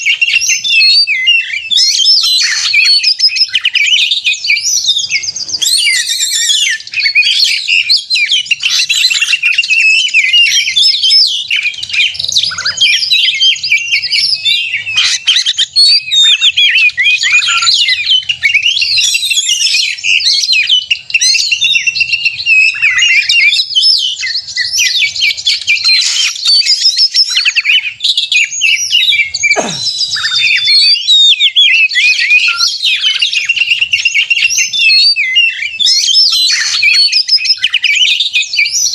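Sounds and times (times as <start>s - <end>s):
bird singing loudly: 0.0s - 38.9s.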